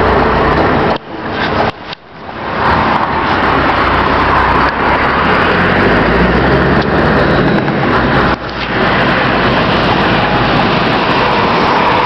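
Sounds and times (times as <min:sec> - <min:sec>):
diesel truck engine running: 0:00.0 - 0:12.0
road and cab noise: 0:00.0 - 0:12.0.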